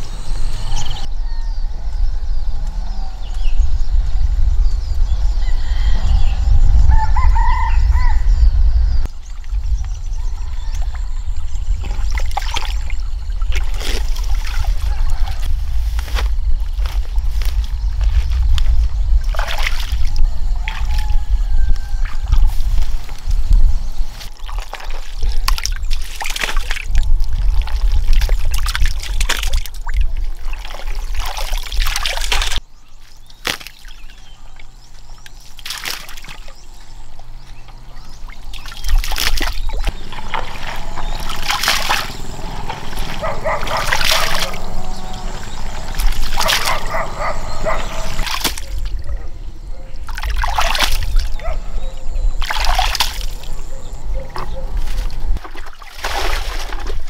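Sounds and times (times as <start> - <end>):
muddy water splashing: 9.1 - 21.2, 21.9 - 57.0.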